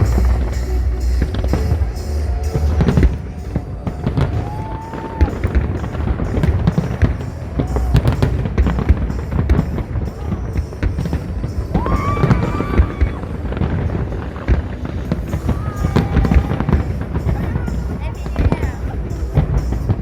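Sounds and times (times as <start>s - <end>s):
fireworks bangs and crackles: 0.0s - 20.0s
low rumble: 0.0s - 20.0s.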